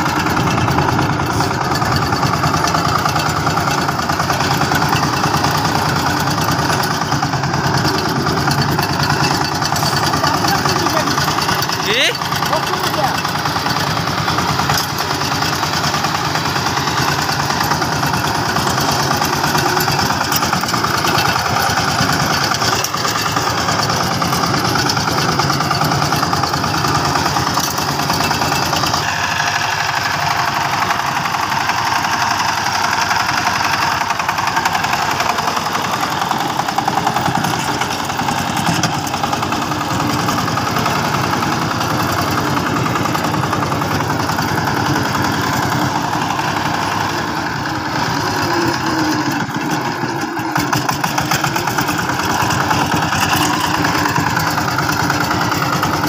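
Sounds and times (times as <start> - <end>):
power tiller engine running: 0.0 - 56.0.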